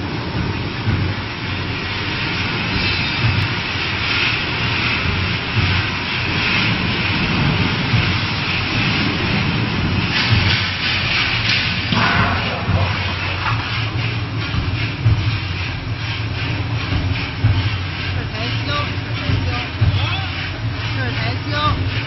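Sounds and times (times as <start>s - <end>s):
roasting machine running: 0.0s - 22.0s.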